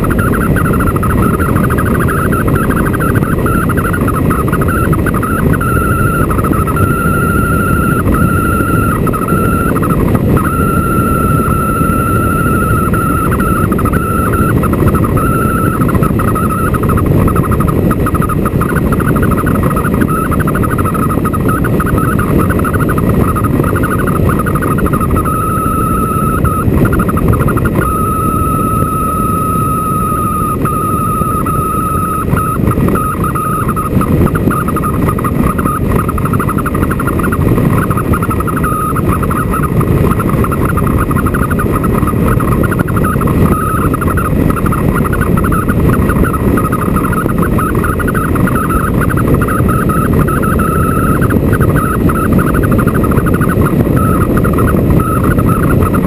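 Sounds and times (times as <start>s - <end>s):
thin high whine: 0.0s - 56.0s.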